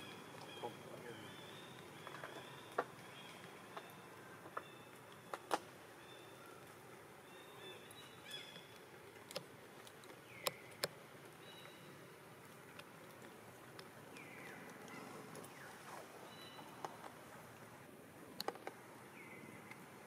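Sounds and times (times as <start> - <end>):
birds chirping: 0.0 - 17.3, 18.5 - 20.0.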